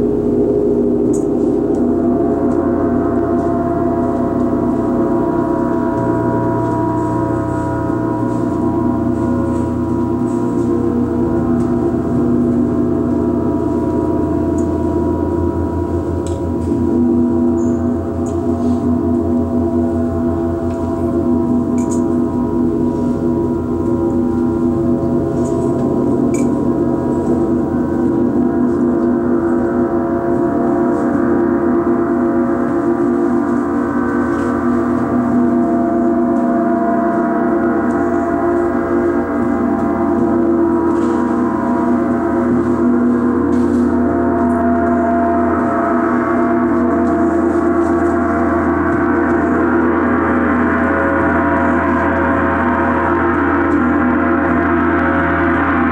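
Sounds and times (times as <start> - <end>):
large gongs ringing: 0.0 - 55.9.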